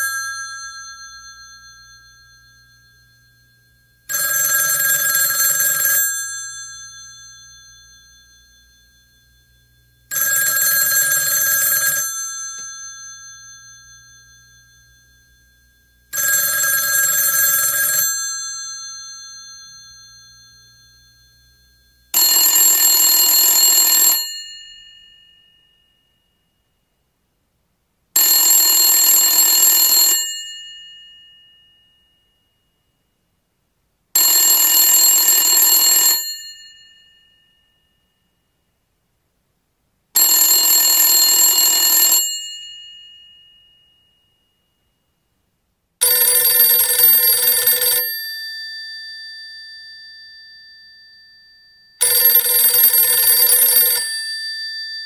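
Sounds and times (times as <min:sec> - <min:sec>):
telephone bell ringing: 0:00.0 - 0:26.4, 0:28.2 - 0:32.6, 0:34.2 - 0:38.4, 0:40.2 - 0:44.8, 0:46.0 - 0:55.0.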